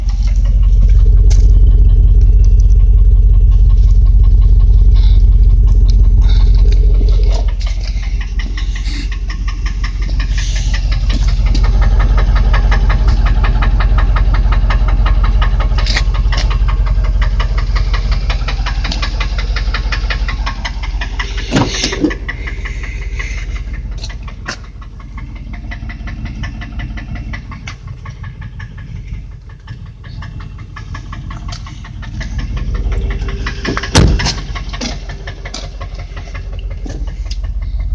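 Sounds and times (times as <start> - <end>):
engine idling with ticking knock: 0.0 - 37.9.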